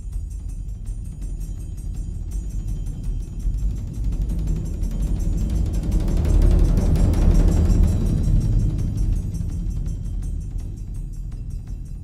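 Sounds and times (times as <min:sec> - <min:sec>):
music with booming bass drums: 0:00.0 - 0:12.0.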